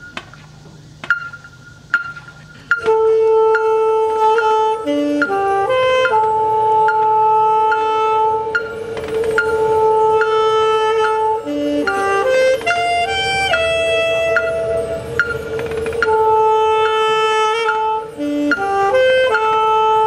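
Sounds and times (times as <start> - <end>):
marching band wind notes: 0.0 - 20.0
mallet percussion notes: 1.0 - 4.5, 5.2 - 20.0.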